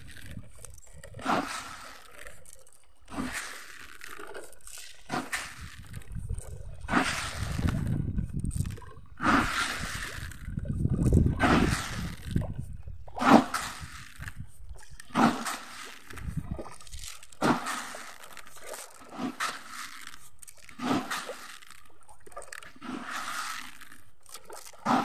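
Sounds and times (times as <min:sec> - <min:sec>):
fish feed splashing on water: 0:00.0 - 0:25.0.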